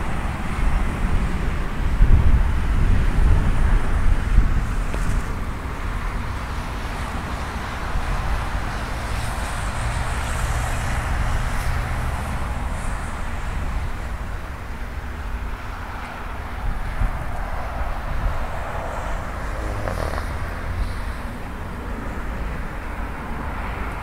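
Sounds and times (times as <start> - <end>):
distant jet aircraft rumble: 0.0 - 24.0
wind on microphone: 0.0 - 24.0.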